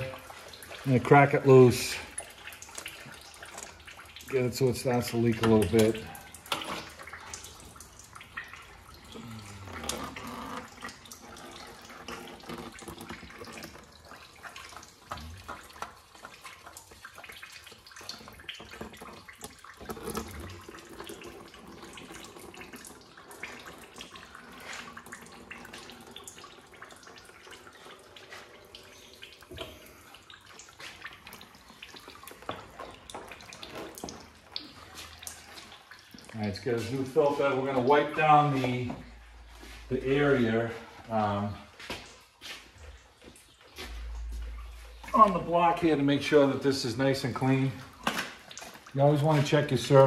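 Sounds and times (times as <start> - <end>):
oil trickling into drain pan: 0.0 - 50.0.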